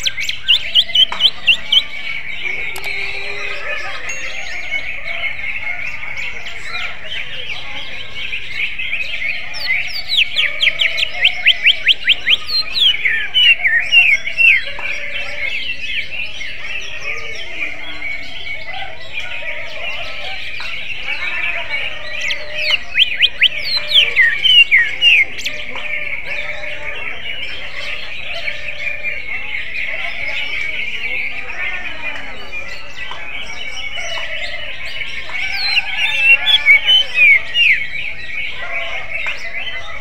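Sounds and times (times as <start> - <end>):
bird singing sweeping notes: 0.0 - 40.0
high background chatter: 0.0 - 40.0.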